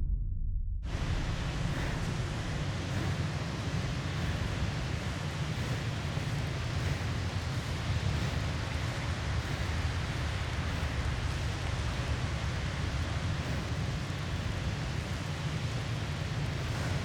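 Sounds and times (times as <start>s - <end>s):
blizzard wind: 0.8s - 17.0s.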